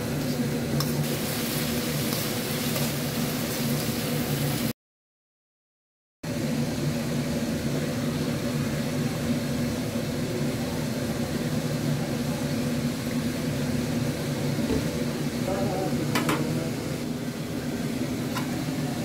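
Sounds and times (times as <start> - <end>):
electric fan humming: 0.0 - 4.7, 6.3 - 19.0.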